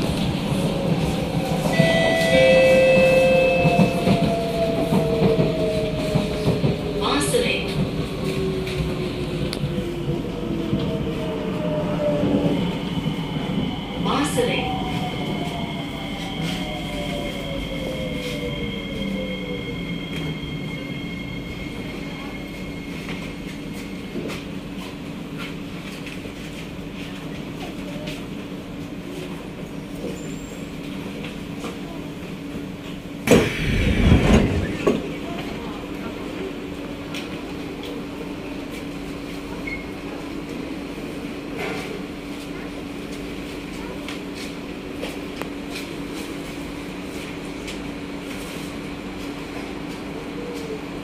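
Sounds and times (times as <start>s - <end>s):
metro train interior hum: 0.0s - 51.0s.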